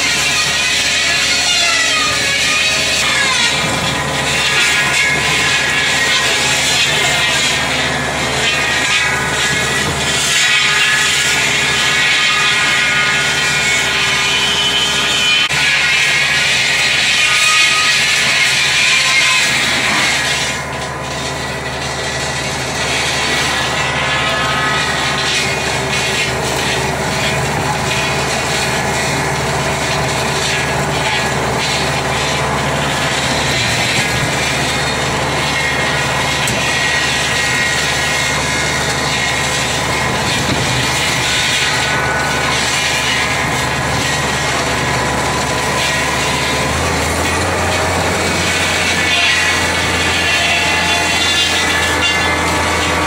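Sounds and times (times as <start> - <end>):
bush-clearing machine engine: 0.0 - 53.0.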